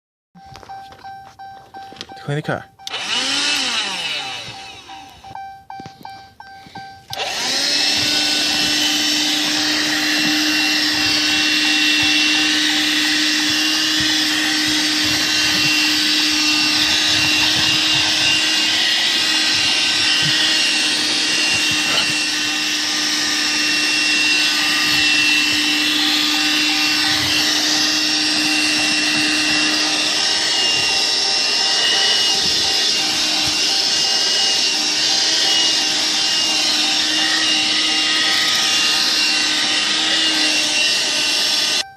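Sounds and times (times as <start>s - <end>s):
vacuum switching on: 2.8s - 5.4s, 7.1s - 41.9s
car vacuum running: 2.8s - 41.9s.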